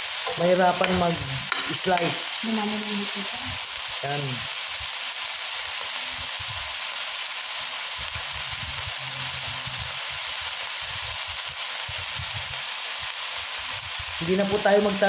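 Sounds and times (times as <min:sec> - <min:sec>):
beef sizzling in a frying pan: 0:00.0 - 0:15.0.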